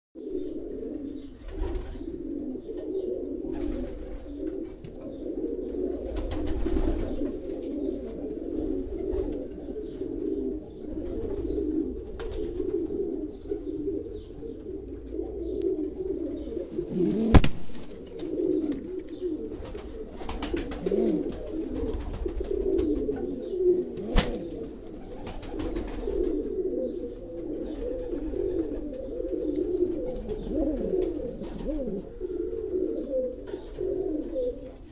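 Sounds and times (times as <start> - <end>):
pigeons cooing: 0.2 - 34.9.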